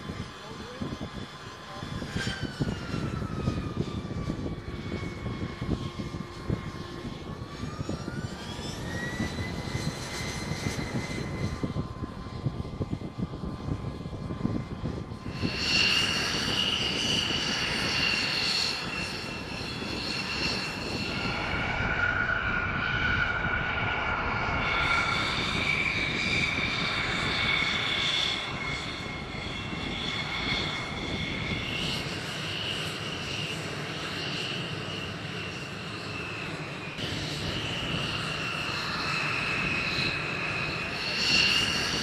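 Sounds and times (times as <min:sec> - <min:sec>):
jet engine whining: 0:00.0 - 0:42.0.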